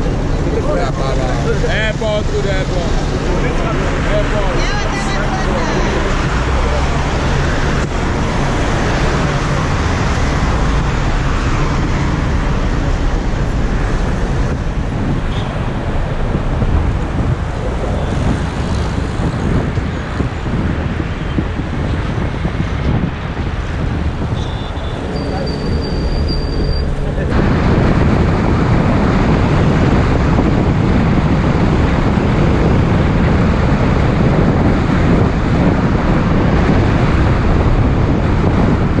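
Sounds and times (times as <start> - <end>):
bus engine: 0.0 - 39.0
road noise: 0.0 - 39.0
wind: 0.0 - 39.0.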